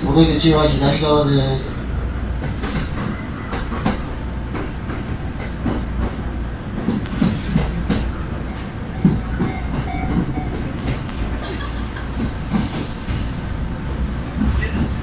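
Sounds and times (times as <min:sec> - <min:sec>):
train rumble inside carriage: 0:00.0 - 0:15.0
wheels clacking over rails: 0:02.3 - 0:15.0.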